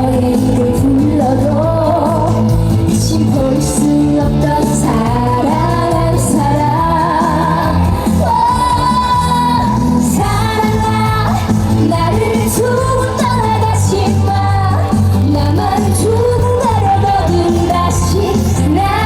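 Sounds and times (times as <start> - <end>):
amplified pop backing music: 0.0 - 19.0
woman singing into microphone: 0.0 - 19.0.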